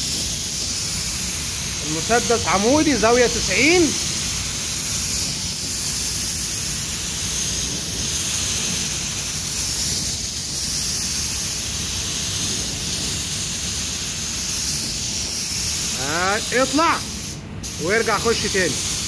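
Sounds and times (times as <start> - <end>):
spray gun hissing: 0.0 - 19.0.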